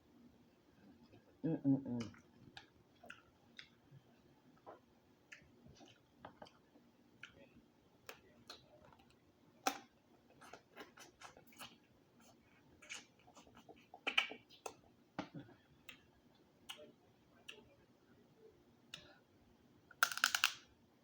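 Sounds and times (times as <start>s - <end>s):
person chewing food: 0.8s - 17.7s.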